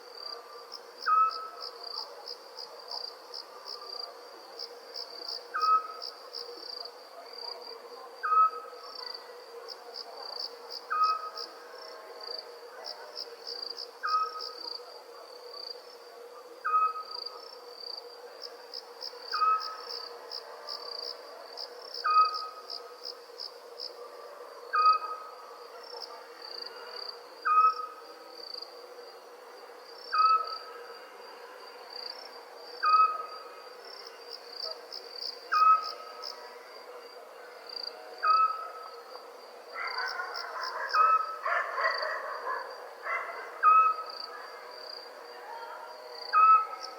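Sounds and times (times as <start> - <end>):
crickets chirping: 0.0 - 46.9
faint steady hum: 0.0 - 46.9.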